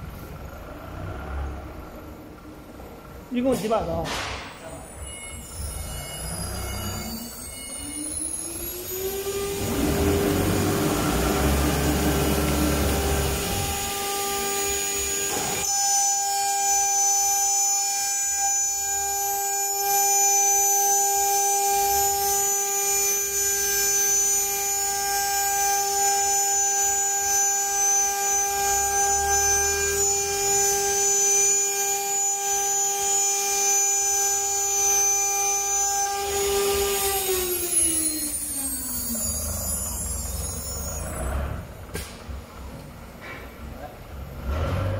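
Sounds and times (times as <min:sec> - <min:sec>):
router spindle whining: 0:04.6 - 0:42.0.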